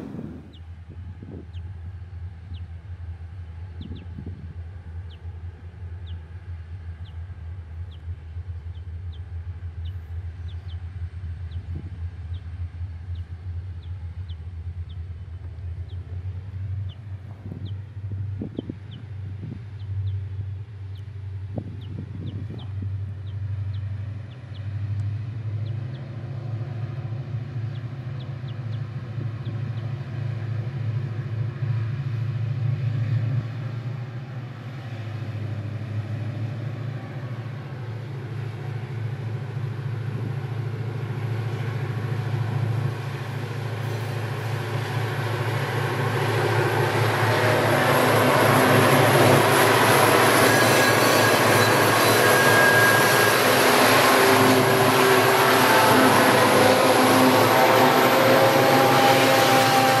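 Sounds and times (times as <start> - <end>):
diesel locomotive humming: 0.0 - 60.0
train wheels rushing on rails: 0.0 - 60.0.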